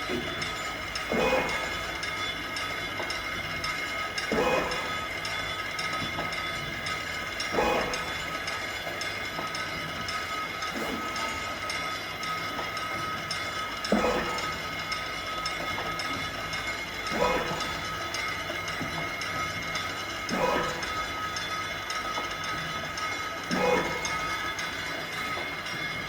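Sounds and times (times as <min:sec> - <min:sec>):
machine knocking: 0:00.0 - 0:26.0
machine motor whine: 0:00.0 - 0:26.0
mechanical clatter: 0:00.0 - 0:26.0.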